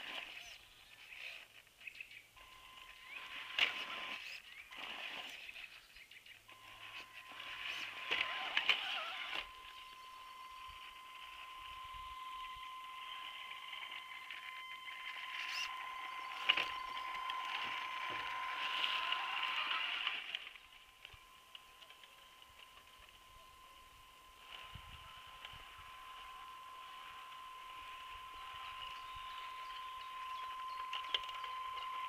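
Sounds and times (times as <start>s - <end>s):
rc car motor whine: 0.0s - 32.0s.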